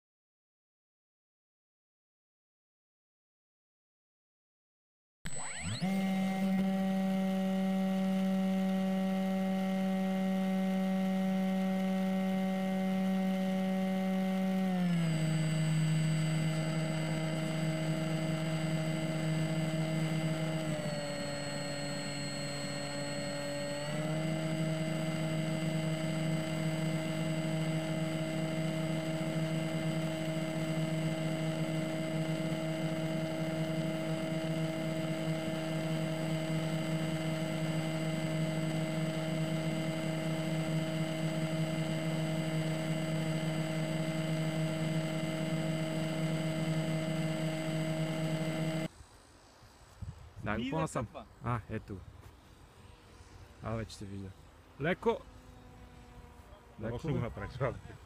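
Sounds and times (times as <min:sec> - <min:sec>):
electric motor and propeller humming: 0:05.3 - 0:58.0.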